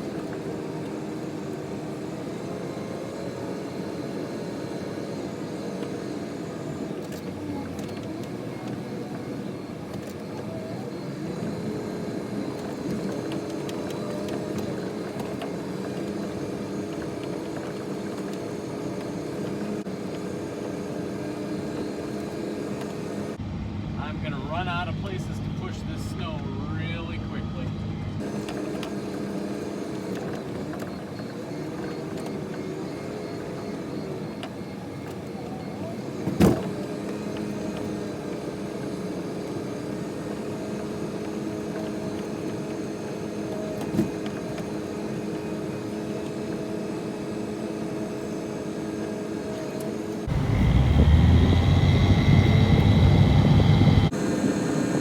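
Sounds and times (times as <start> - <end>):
snow plow engine running: 0.0 - 55.0.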